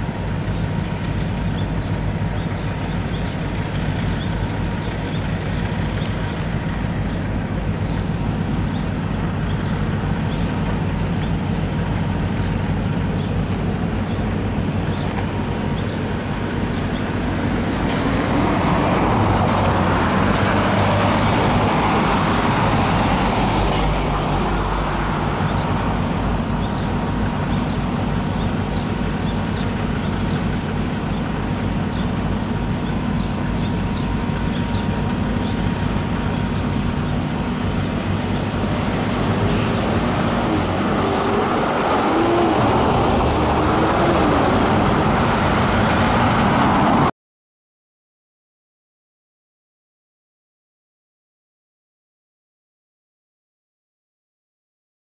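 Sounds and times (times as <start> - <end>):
low engine hum: 0.0 - 47.1
vehicles passing: 0.0 - 47.1.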